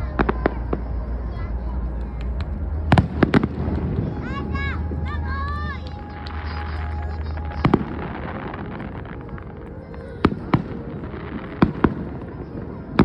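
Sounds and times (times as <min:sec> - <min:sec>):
steady background noise: 0:00.0 - 0:13.0
fireworks bangs: 0:02.1 - 0:13.0.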